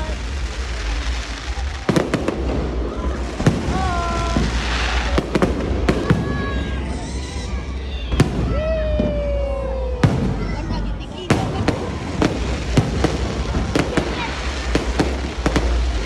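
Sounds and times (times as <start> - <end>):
sharp firework bangs: 0.0 - 9.4, 10.0 - 16.0
fireworks crackling and hissing: 0.0 - 16.0.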